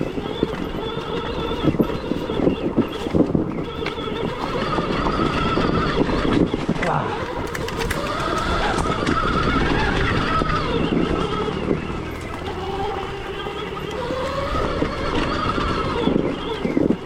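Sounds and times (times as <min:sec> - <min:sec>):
electric motorbike motor whining: 0:00.0 - 0:17.0
tyres rumbling on rough trail: 0:00.0 - 0:17.0.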